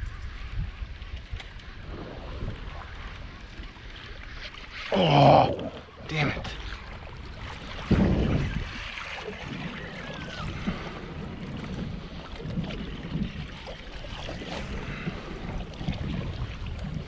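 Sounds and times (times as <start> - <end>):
small waves lapping against hull: 0.0 - 17.0
wind buffeting microphone: 0.0 - 17.0.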